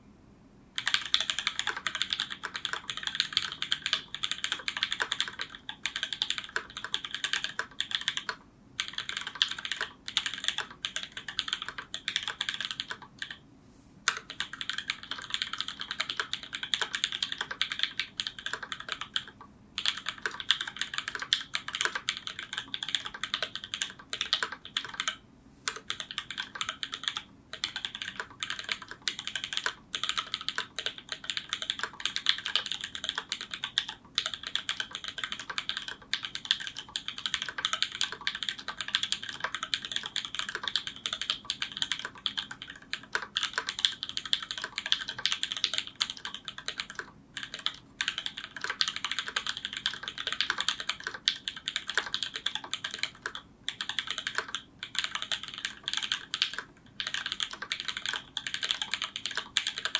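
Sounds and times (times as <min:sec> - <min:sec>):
mechanical keyboard typing: 0:00.8 - 0:13.4, 0:14.1 - 0:59.9.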